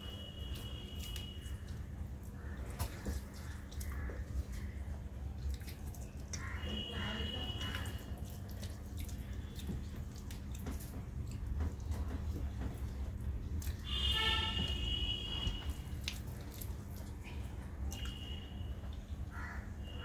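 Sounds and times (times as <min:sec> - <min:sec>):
wet chewing: 0:00.4 - 0:14.8, 0:15.4 - 0:19.3.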